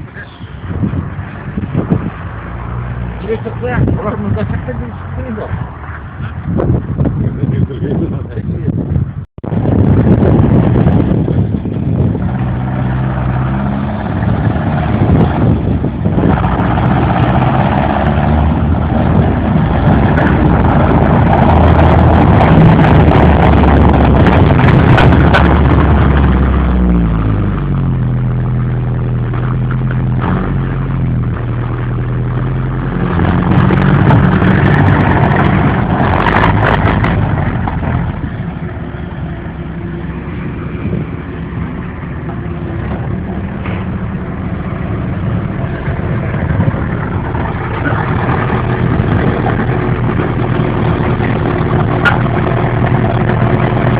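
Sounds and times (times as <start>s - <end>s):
vehicle engine running loudly: 0.0s - 53.9s
rattling and clanking: 9.6s - 53.9s.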